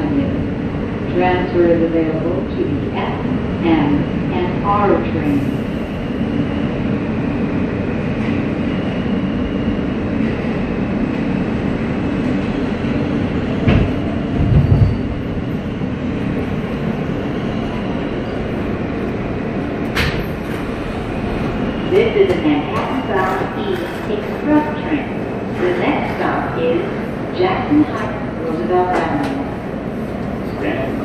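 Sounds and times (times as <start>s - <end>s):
subway train rumble: 0.0s - 31.0s.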